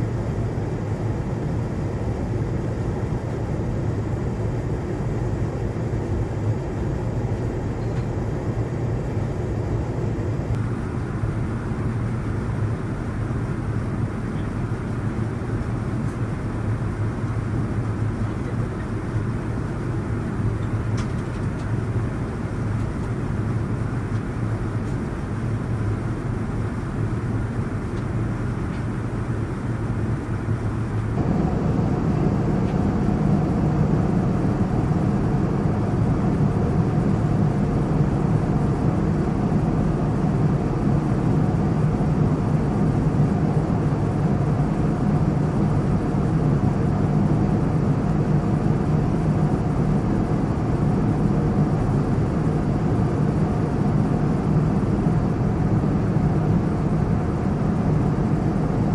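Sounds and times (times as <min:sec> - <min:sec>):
airliner cabin drone: 0:00.0 - 0:58.9.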